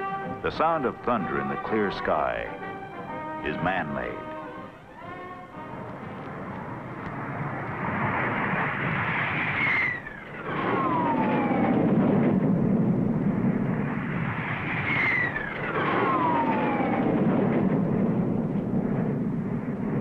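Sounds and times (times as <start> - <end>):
jet aircraft roar: 0.0 - 20.0.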